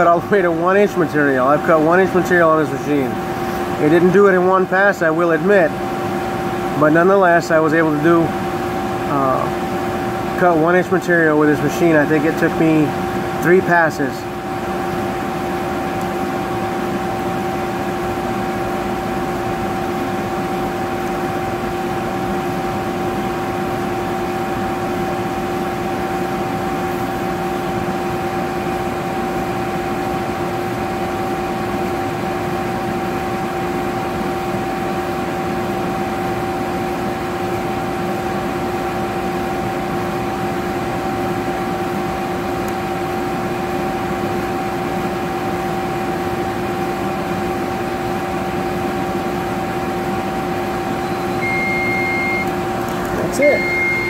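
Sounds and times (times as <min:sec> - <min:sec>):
laser cutter humming: 0:00.0 - 0:54.0.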